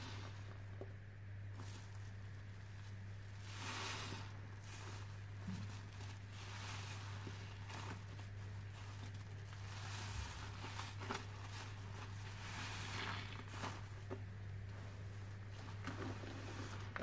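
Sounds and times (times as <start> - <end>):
low steady hum: 0.0 - 17.0
wet sponge squishing: 1.5 - 17.0.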